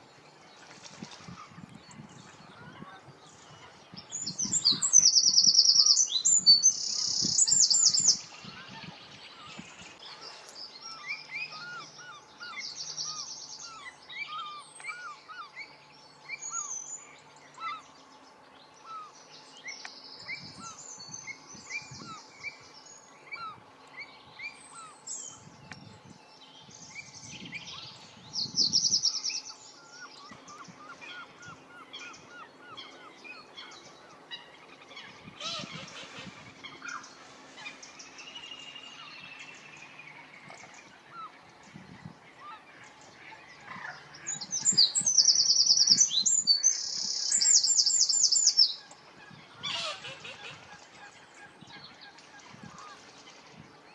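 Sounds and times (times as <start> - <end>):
birds chirping: 0.0 - 53.9
loud trilled birdsong: 1.2 - 53.1.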